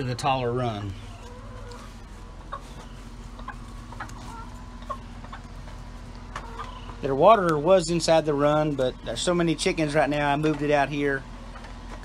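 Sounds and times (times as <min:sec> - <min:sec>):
chickens clucking: 0:00.0 - 0:12.0
faint steady hum: 0:00.0 - 0:12.0.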